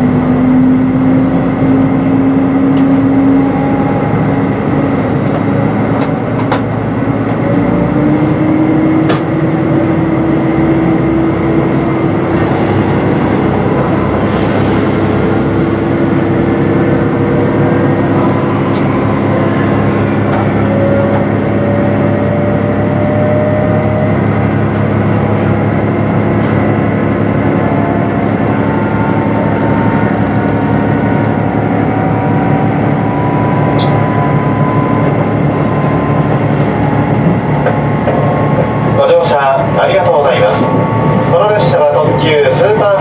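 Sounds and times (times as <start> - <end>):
diesel engine drone: 0.0 - 43.0
train running rumble: 0.0 - 43.0.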